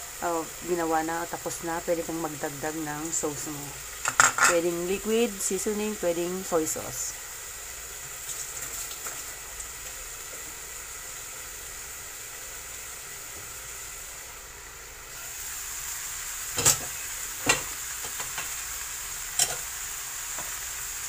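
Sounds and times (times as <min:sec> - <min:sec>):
chicken sizzling in a pan: 0:00.0 - 0:21.0.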